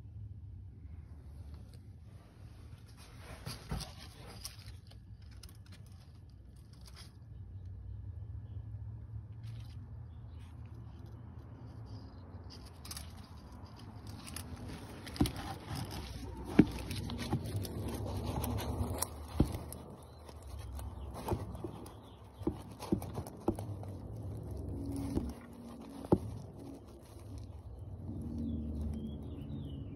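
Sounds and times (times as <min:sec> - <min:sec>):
rustling and scraping: 0:01.4 - 0:07.7, 0:09.2 - 0:29.8.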